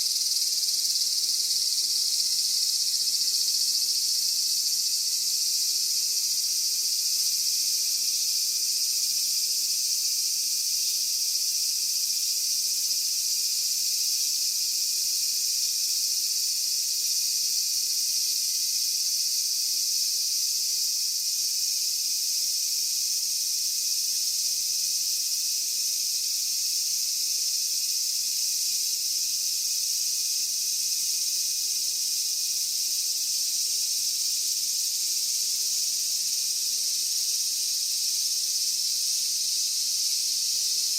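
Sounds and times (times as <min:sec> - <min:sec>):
insects chorus shrill hiss: 0:00.0 - 0:40.9.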